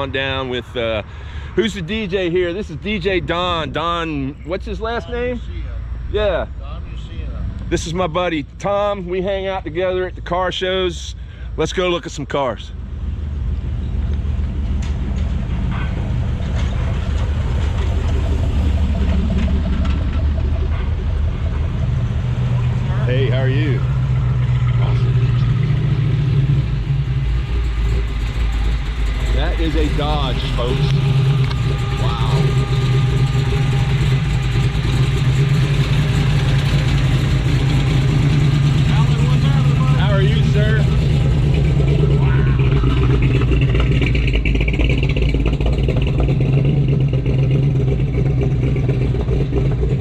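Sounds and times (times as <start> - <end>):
car engine running at low speed: 0.0 - 50.0.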